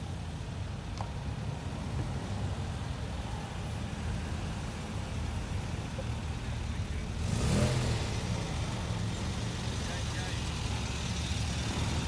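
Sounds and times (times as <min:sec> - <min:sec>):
cars driving slowly past: 0:00.0 - 0:12.0.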